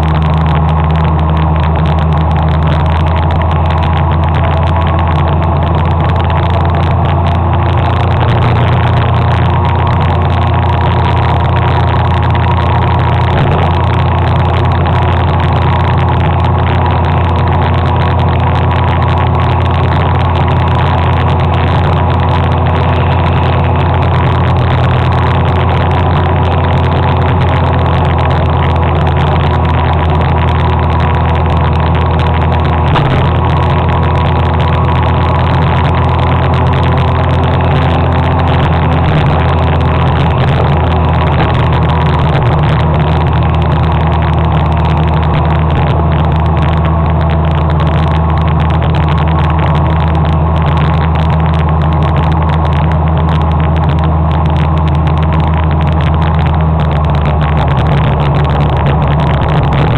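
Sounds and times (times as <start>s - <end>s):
motor scooter engine humming: 0.0s - 59.9s.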